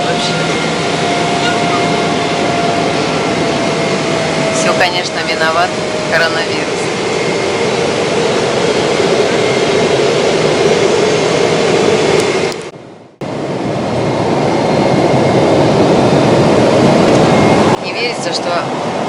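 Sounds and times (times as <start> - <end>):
jet cabin engine and airflow rush: 0.0 - 19.0.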